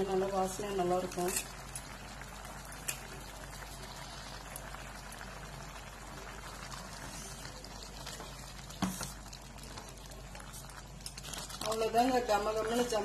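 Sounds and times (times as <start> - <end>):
food simmering in a pan: 0.0 - 13.0.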